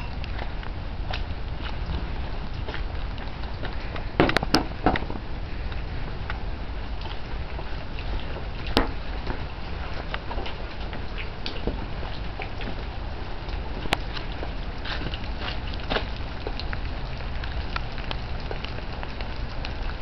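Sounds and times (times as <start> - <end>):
small ticks and drips: 0.0 - 20.0
steady low rumble: 0.0 - 20.0.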